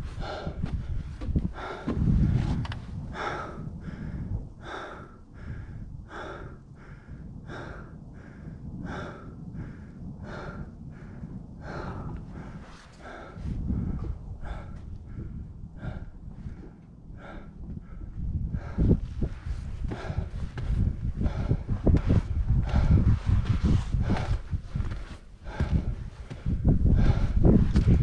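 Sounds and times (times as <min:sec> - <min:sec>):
heavy rhythmic breathing: 0:00.0 - 0:28.0
low rumble: 0:00.0 - 0:28.0.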